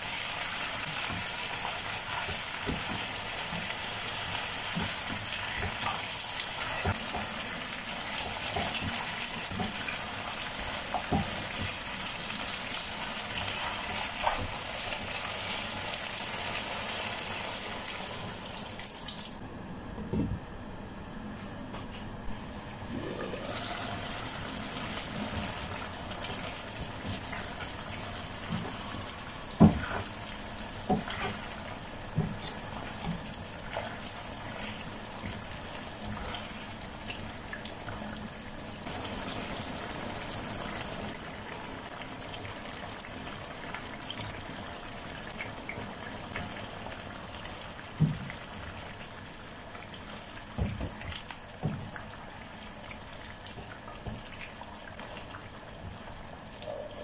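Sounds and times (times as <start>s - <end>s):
food sizzling in frying pan: 0.0s - 19.4s, 22.3s - 50.6s.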